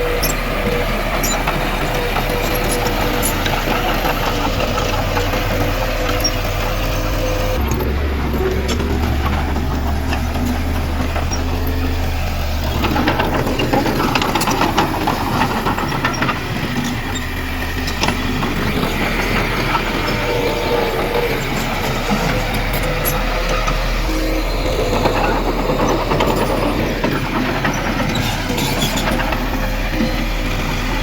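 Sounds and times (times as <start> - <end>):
heavy machinery diesel engine: 0.0 - 31.0.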